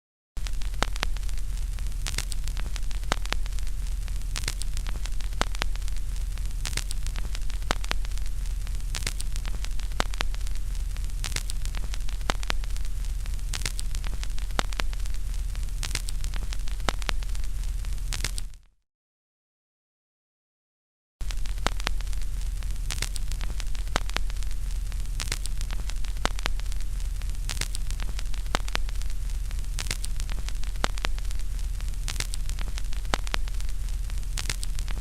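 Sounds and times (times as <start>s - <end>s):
low mains hum: 0.4s - 18.3s, 21.2s - 35.0s
television static hiss: 0.4s - 18.6s, 21.2s - 35.0s
static crackles and clicks: 0.4s - 18.8s, 21.2s - 35.0s.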